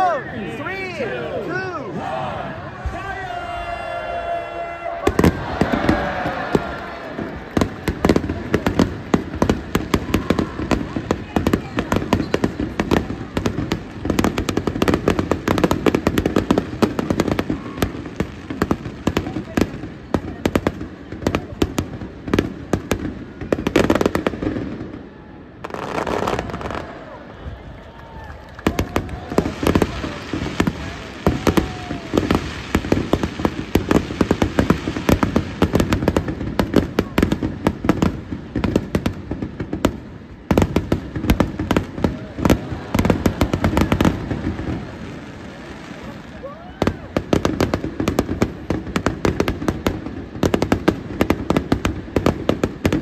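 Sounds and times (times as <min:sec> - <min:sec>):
fireworks bangs and crackles: 0:02.3 - 0:53.0.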